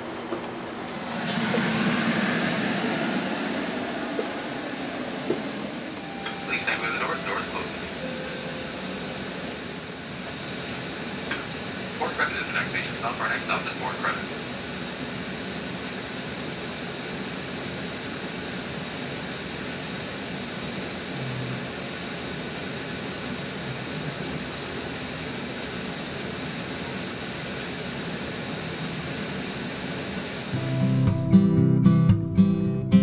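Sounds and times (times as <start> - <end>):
train wheels rumbling on rails: 0.0 - 30.5.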